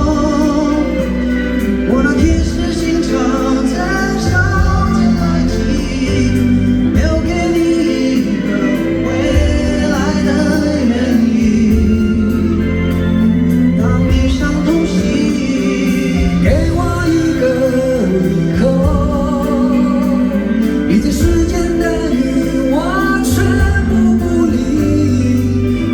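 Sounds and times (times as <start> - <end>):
live band with singing: 0.0 - 25.9.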